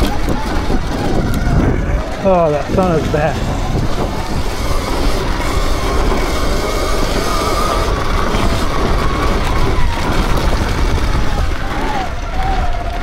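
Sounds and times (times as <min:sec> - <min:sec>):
electric motor whine: 0:00.0 - 0:13.0
wind and rolling noise: 0:00.0 - 0:13.0.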